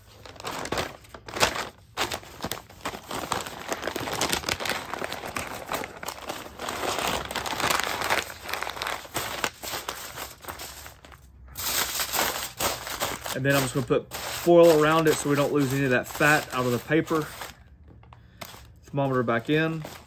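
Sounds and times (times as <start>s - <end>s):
paper crinkling and rustling: 0.0s - 20.0s.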